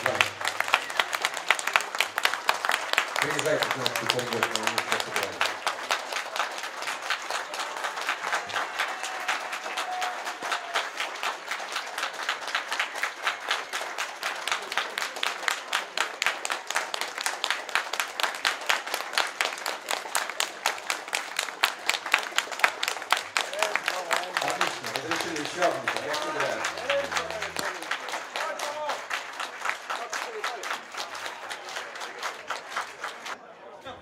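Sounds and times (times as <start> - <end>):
audience applauding: 0.0 - 33.4
nearby hands clapping: 0.0 - 33.4.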